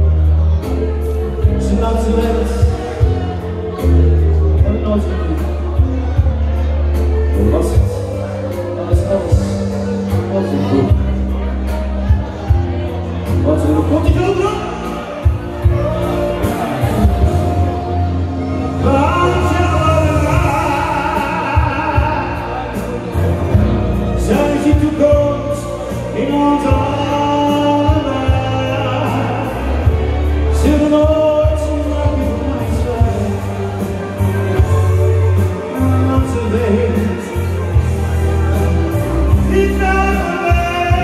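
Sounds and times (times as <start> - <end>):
bass and drums beat: 0.0 - 41.0
person singing: 0.0 - 41.0.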